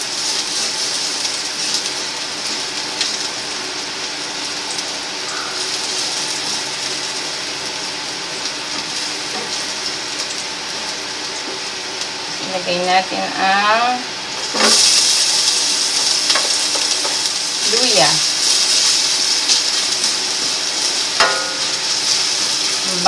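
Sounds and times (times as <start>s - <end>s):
garlic sizzling in oil: 0.0s - 23.0s.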